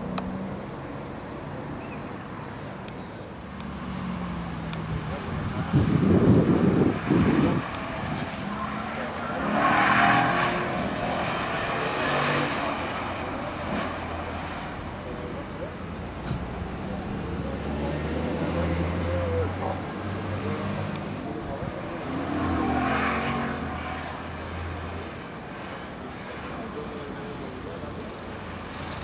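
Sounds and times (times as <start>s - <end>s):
car engine running hard: 0.0s - 29.0s.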